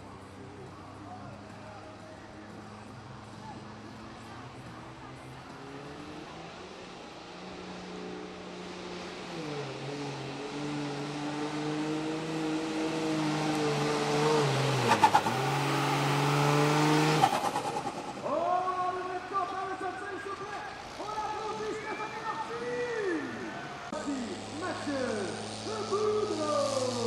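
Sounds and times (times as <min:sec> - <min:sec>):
engine crackles: 0:00.0 - 0:27.0
truck engine working hard: 0:00.0 - 0:27.0.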